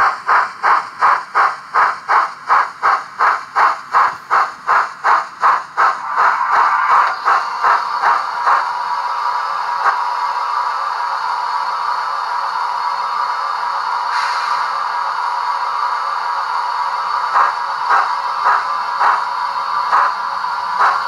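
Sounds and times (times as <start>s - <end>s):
model steam locomotive chuffing: 0.0s - 21.0s.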